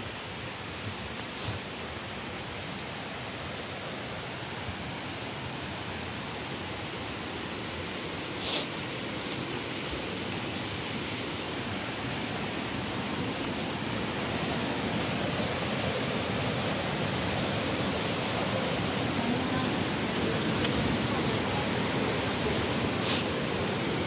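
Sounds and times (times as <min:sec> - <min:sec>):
river water rushing over falls: 0:00.0 - 0:24.0.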